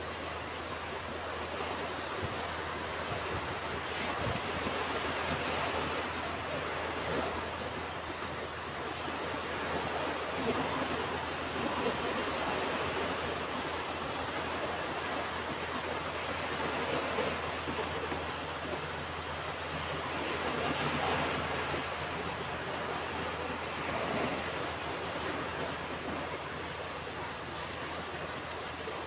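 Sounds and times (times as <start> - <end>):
ocean waves breaking: 0.0 - 29.0.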